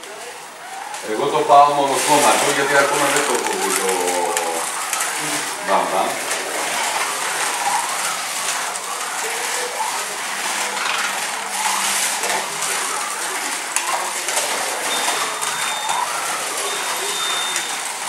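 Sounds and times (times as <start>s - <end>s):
cars rattling on plastic track: 0.0s - 18.0s.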